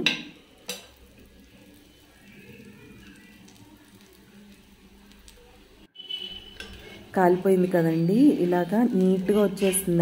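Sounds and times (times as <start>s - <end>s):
oil sizzling on a hot pan: 0.0s - 10.0s.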